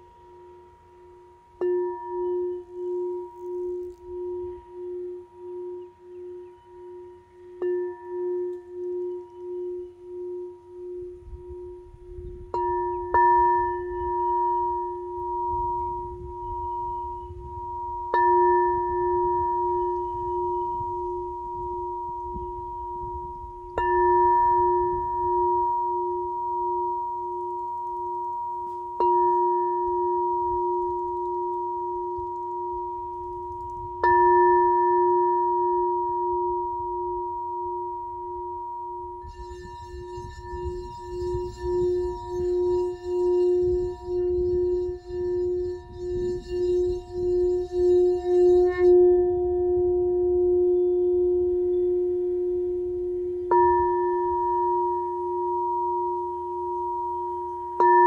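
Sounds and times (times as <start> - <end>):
singing bowl ringing: 0.0 - 58.0.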